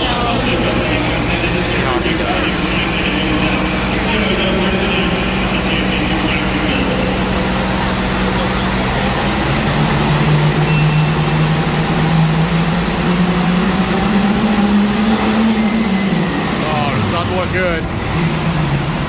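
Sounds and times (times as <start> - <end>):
diesel tractor engine under load: 0.0 - 19.0.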